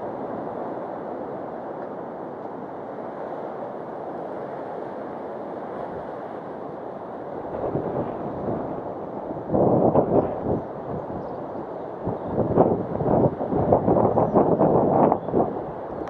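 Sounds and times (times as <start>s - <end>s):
sea surf washing: 0.0s - 16.0s
wind rumbling on microphone: 0.0s - 16.0s.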